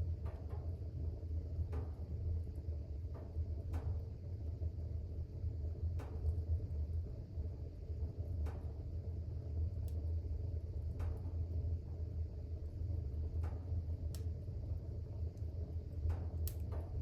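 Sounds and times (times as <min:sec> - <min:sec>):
fire crackles: 0:00.0 - 0:17.0
low rumble of flames: 0:00.0 - 0:17.0.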